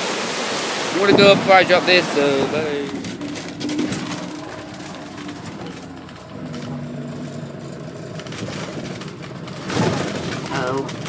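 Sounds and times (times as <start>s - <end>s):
road noise: 0.0s - 11.0s
car engine from inside cabin: 1.9s - 11.0s.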